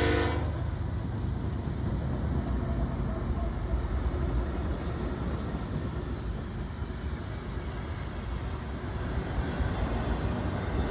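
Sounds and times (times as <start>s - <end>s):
freight train rumbling over rails: 0.0s - 10.9s.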